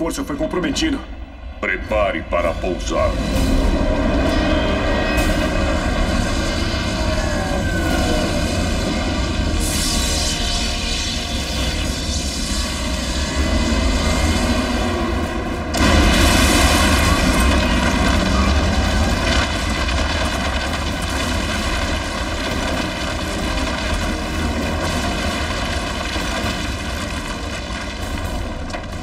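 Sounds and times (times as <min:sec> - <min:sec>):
spaceship engines rumbling roar: 0:00.1 - 0:29.0.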